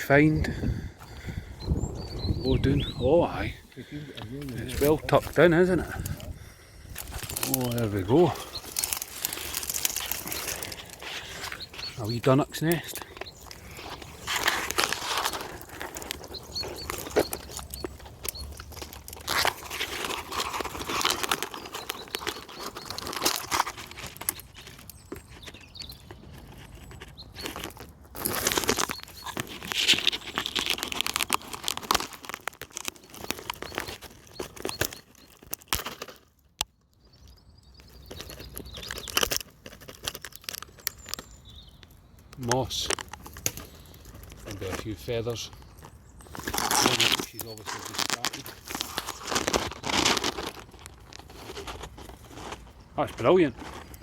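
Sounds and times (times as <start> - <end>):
leaves and twigs rustling: 0.0 - 36.3, 37.0 - 54.0.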